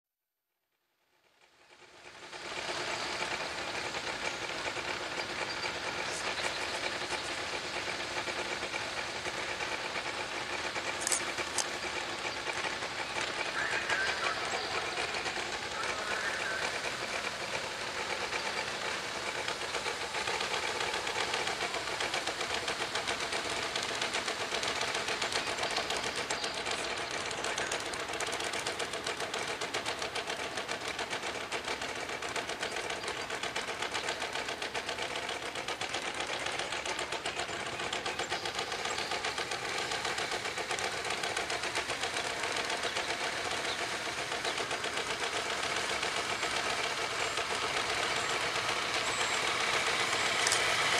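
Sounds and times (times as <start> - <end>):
small engines ticking: 0.8 - 50.9.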